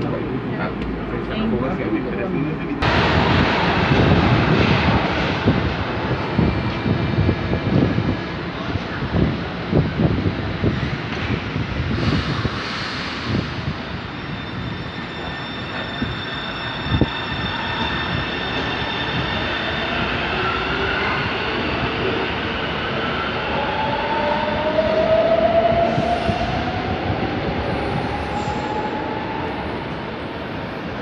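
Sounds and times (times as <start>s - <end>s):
train rail noise: 0.0s - 31.0s.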